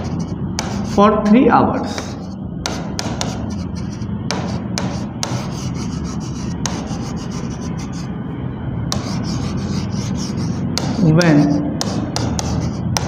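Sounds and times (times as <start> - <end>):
stylus scratching on glass: 0.0 - 1.0, 1.9 - 8.1, 9.0 - 13.0.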